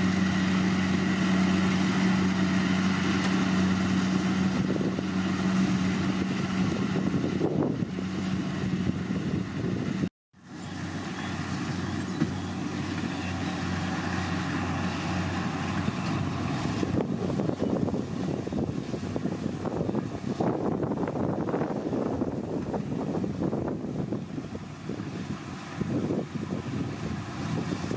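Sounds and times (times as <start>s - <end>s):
combine harvester engine humming: 0.0s - 27.9s
machinery rushing noise: 0.0s - 27.9s.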